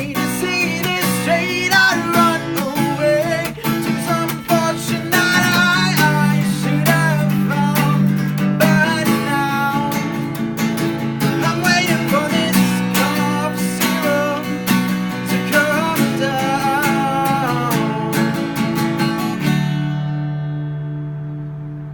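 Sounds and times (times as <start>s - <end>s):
man singing: 0.0s - 19.4s
acoustic guitar strumming: 0.0s - 21.9s.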